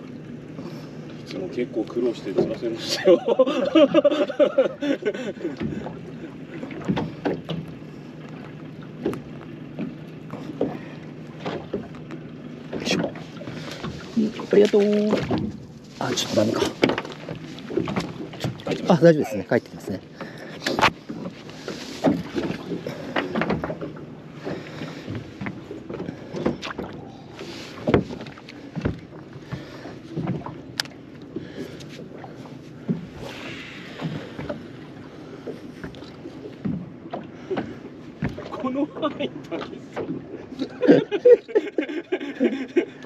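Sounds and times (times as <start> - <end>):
boat low hum: 0.0 - 43.0
rush of wind and water: 0.0 - 43.0.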